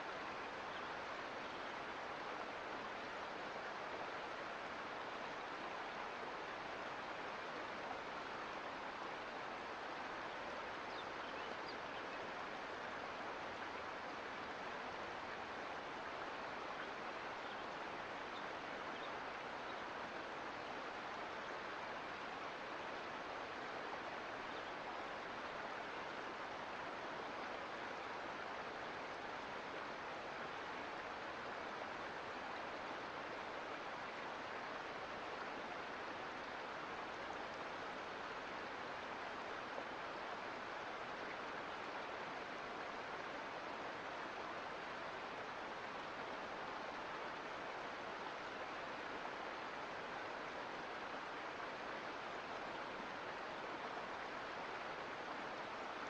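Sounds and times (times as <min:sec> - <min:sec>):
creek water rushing: 0:00.0 - 0:56.0.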